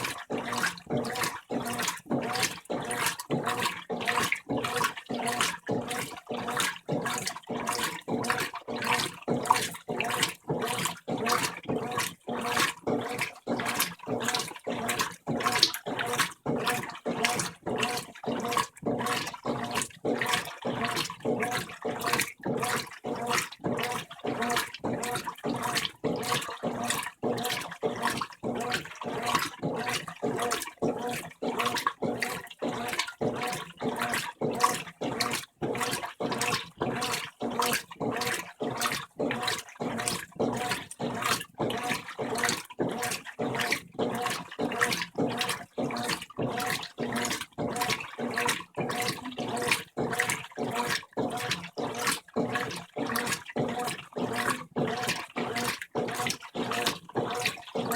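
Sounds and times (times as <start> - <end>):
washing machine agitator swishing water: 0.0 - 57.9.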